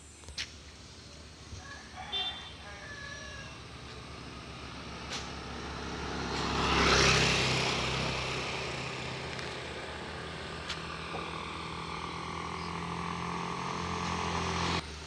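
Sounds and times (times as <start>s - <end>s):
low engine hum: 0.0s - 15.0s
motor scooter passing by: 2.1s - 15.0s.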